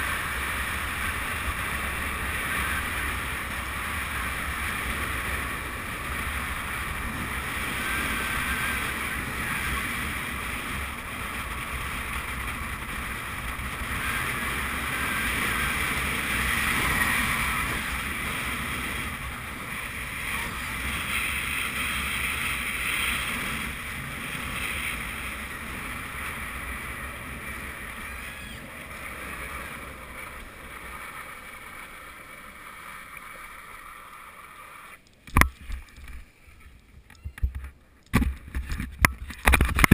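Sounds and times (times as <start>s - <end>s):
wind rushing over microphone: 0.0s - 33.0s
longboard wheels rolling on asphalt: 0.0s - 39.9s.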